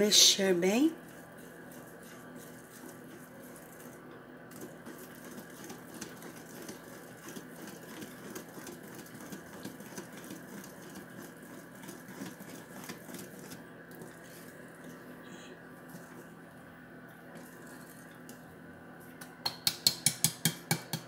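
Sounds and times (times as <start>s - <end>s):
whisk beating batter in glass bowl: 0.0s - 15.0s, 15.8s - 16.5s, 17.3s - 18.4s
steady hum: 0.0s - 21.0s.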